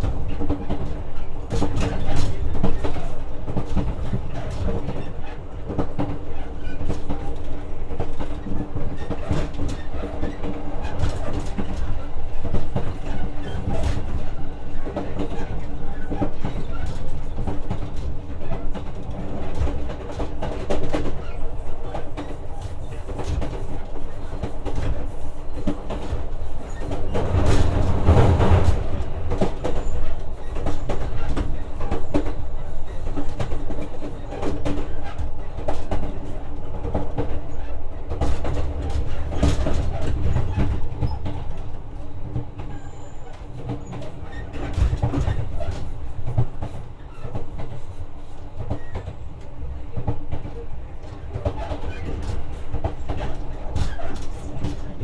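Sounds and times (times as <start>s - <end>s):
train drive hum: 0.0s - 55.0s
wheels rumbling on rail: 0.0s - 55.0s.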